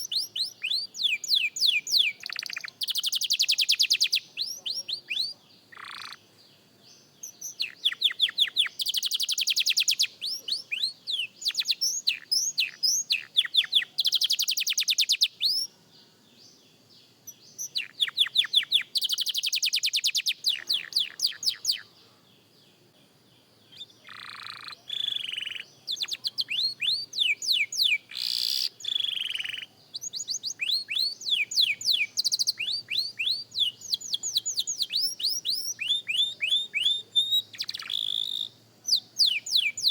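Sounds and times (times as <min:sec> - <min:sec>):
canary singing: 0:00.0 - 0:15.8, 0:17.0 - 0:22.2, 0:23.6 - 0:39.9.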